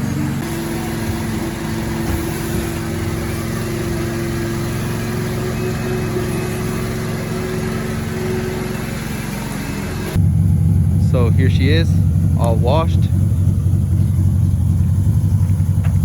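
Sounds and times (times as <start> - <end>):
engine idling with steady hum: 0.0 - 16.0.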